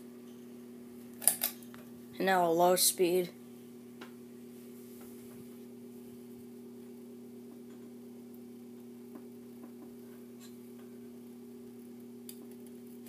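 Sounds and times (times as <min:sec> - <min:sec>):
ceiling fan running: 0:00.0 - 0:13.0.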